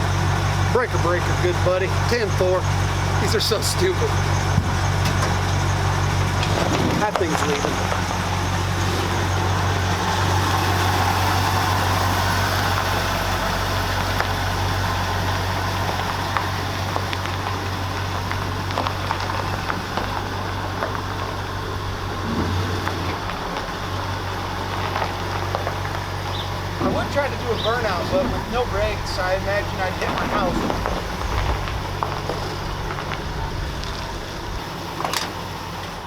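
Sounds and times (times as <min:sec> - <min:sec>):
truck engine humming: 0:00.0 - 0:36.0.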